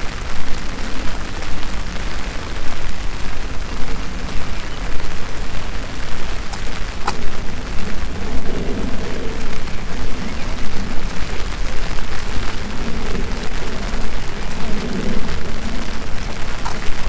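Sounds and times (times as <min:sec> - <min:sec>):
deep rumble: 0:00.0 - 0:17.0
steady rain: 0:00.0 - 0:17.0.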